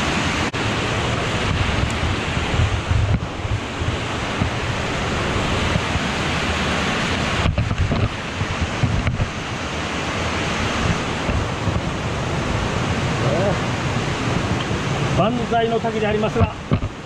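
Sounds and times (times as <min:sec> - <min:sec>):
waterfall roaring: 0:00.0 - 0:17.0
wind buffeting microphone: 0:00.0 - 0:17.0.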